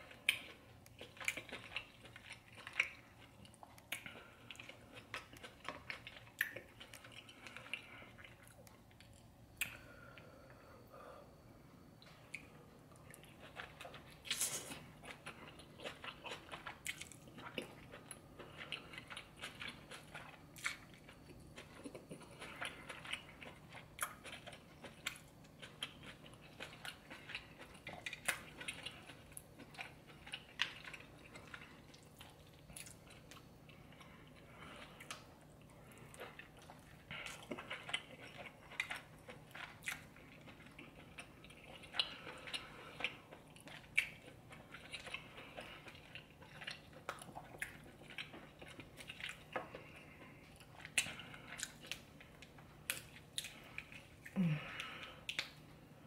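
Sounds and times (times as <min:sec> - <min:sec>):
close-miked chewing: 0:00.0 - 0:10.8, 0:11.9 - 0:56.0.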